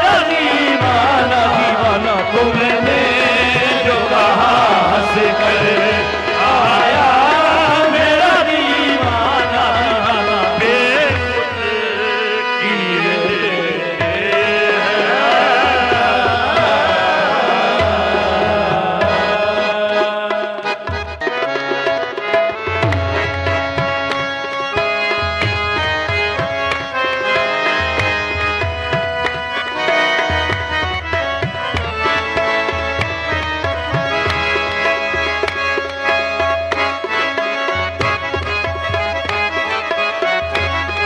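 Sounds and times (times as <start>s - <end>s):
tabla: 0.0s - 41.0s.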